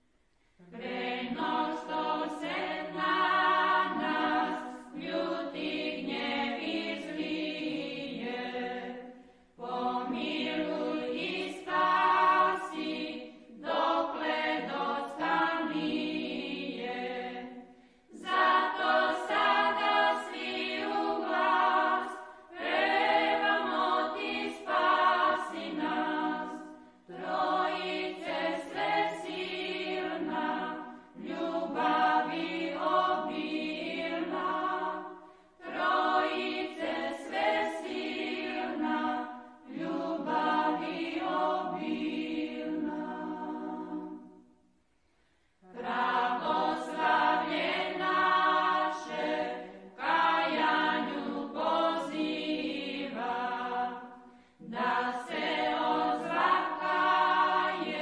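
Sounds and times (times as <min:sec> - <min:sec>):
women's choir singing a hymn: 0:00.6 - 0:44.6, 0:45.6 - 0:58.0.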